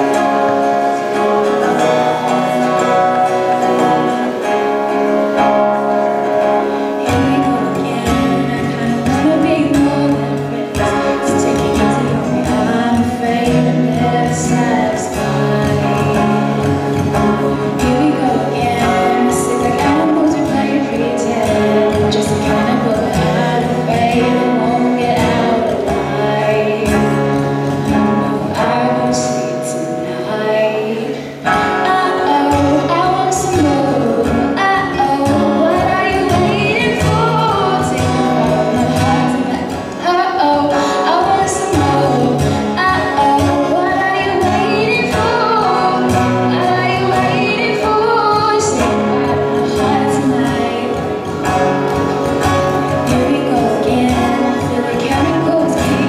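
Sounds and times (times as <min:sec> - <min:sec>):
acoustic guitars strumming: 0:00.0 - 0:56.0
girl singing into microphone: 0:00.0 - 0:56.0.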